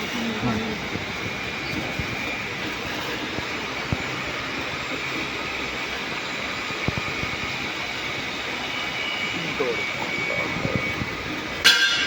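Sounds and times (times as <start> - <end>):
workshop machinery whining: 0.0 - 12.0.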